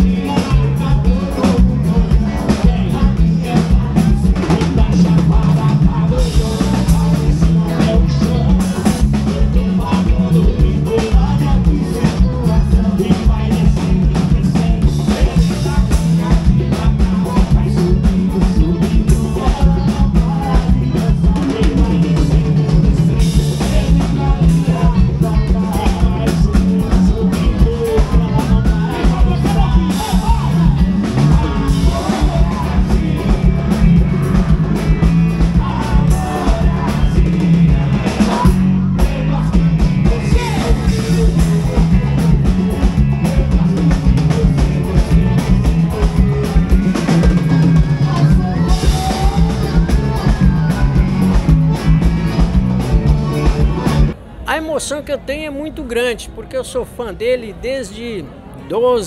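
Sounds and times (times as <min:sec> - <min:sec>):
live band playing: 0:00.0 - 0:59.0
male lead vocals: 0:00.0 - 0:59.0.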